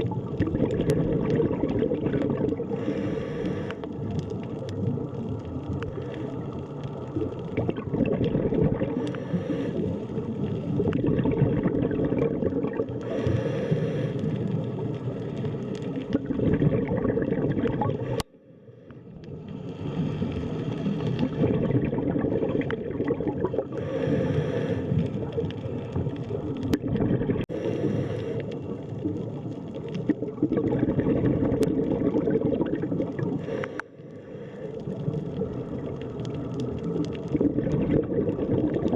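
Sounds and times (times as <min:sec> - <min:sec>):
underwater gurgling and bubbling: 0:00.0 - 0:38.9.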